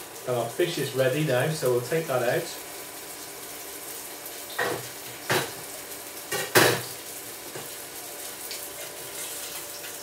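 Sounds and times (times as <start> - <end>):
fish frying in oil: 0.0 - 10.0.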